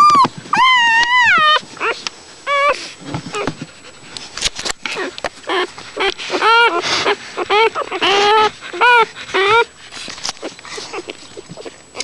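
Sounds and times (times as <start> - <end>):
puppy squealing and whimpering: 0.0 - 3.5, 4.9 - 9.8, 10.4 - 12.0.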